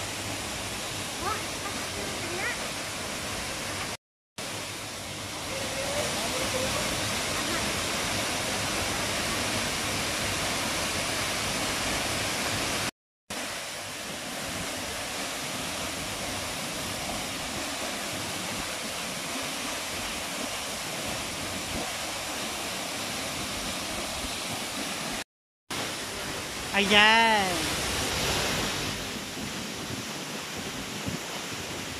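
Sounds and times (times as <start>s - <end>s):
waterfall rushing into pool: 0.0s - 31.9s.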